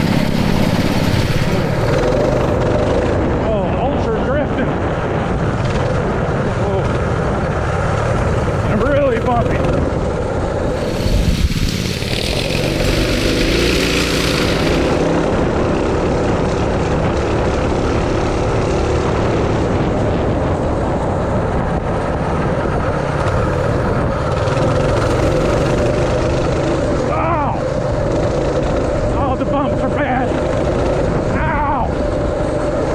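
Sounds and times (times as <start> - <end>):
mini bike engines running: 0.0 - 32.9.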